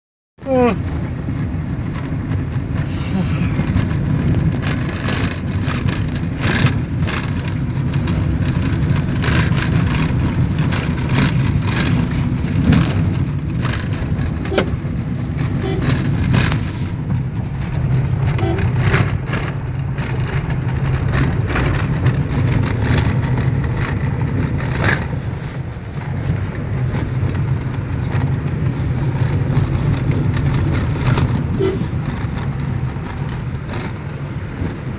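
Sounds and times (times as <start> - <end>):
low rumble of engine and tyres: 0.4 - 34.9
knocks and rattles over bumps: 0.5 - 34.9.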